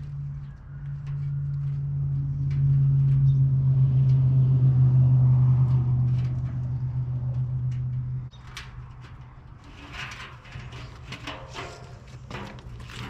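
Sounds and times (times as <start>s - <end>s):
low mechanical engine hum: 0.0s - 13.0s.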